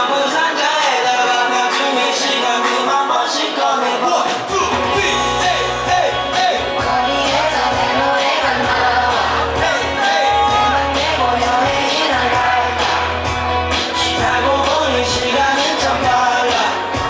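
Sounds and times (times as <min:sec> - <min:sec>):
man singing: 0:00.0 - 0:17.0
pop backing track with heavy bass: 0:00.0 - 0:17.0.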